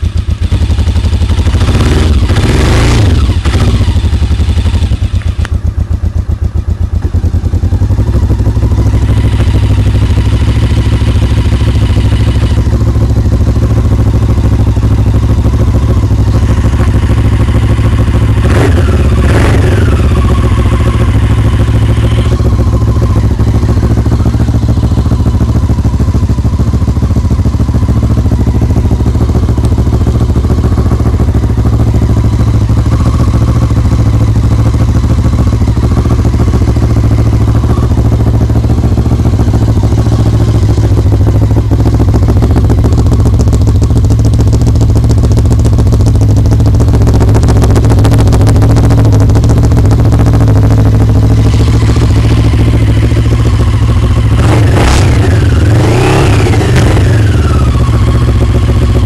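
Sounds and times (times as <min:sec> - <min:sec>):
motorcycle engine idling: 0:00.0 - 0:59.0
engine revving: 0:01.1 - 0:05.0, 0:08.6 - 0:43.6, 0:46.9 - 0:59.0.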